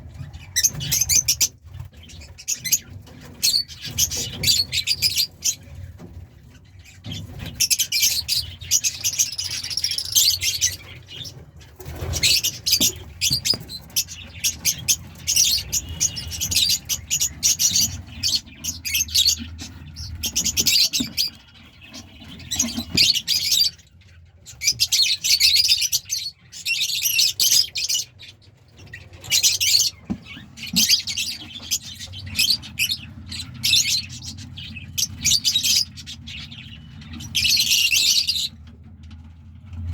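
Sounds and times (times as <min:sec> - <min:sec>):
lovebirds chirping: 0:00.1 - 0:38.6.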